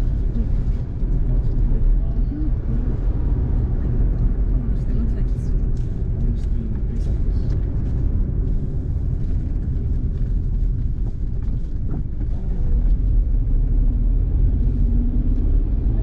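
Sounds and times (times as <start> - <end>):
road and tyre rumble in car: 0.0 - 16.0.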